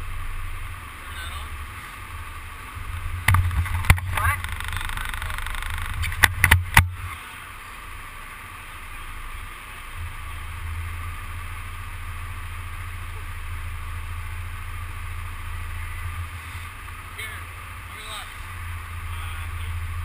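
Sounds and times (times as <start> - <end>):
go-karts idling: 0.0 - 20.0.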